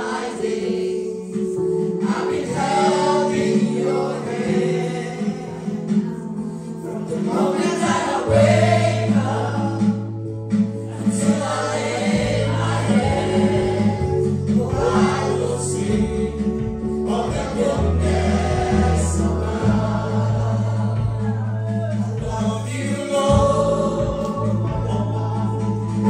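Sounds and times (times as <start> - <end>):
band accompaniment: 0.0 - 26.0
choir singing gospel: 0.0 - 26.0.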